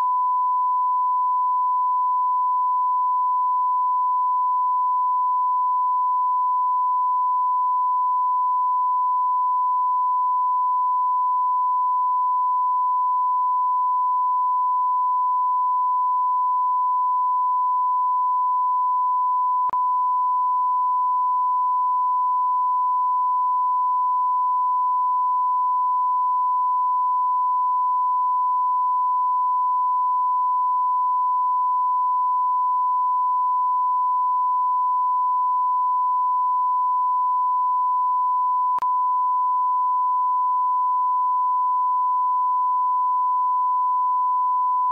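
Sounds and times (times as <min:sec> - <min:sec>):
sine-wave test tone: 0:00.0 - 0:44.9.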